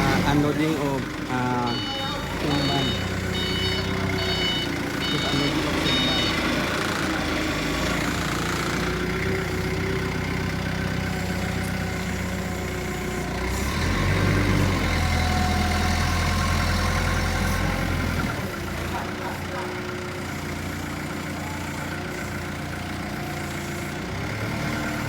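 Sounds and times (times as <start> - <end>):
heavy vehicle engine idling: 0.0 - 25.0.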